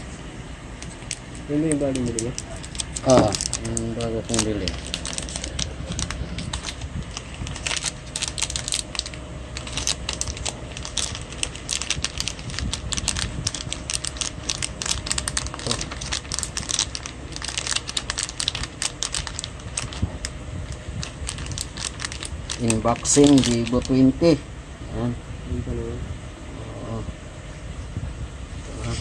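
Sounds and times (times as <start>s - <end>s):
plastic wrapping crinkling: 0.8s - 24.2s.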